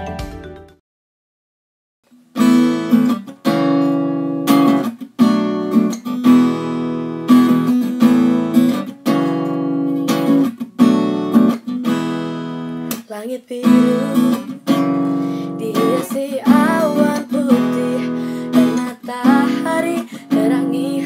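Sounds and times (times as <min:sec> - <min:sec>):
acoustic guitar strumming: 0:02.3 - 0:13.0, 0:13.6 - 0:21.0.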